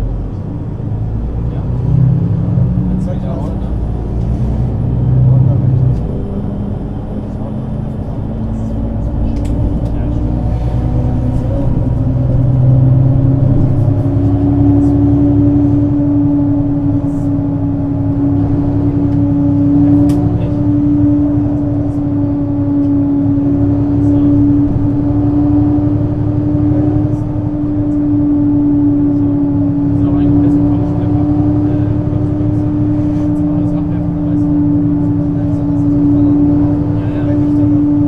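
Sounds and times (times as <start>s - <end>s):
bus drivetrain whine: 0.0s - 38.0s
bus engine hum: 0.0s - 38.0s.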